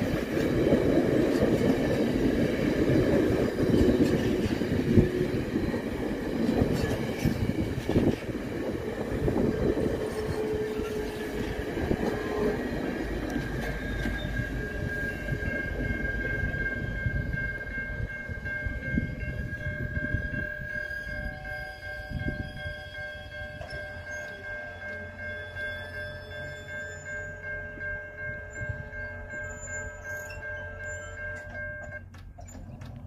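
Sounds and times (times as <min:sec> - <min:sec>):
train cars rumbling and clattering: 0:00.0 - 0:33.0
level-crossing bell ringing: 0:01.5 - 0:32.1.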